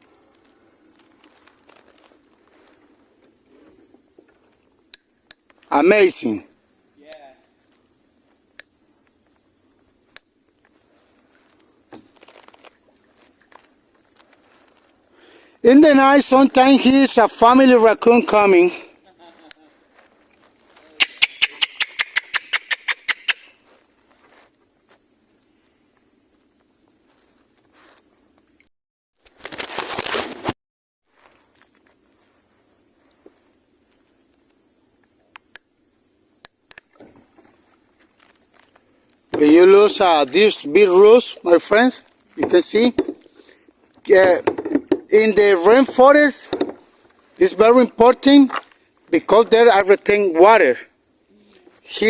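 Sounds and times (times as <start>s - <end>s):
crickets trilling: 0.0s - 52.0s.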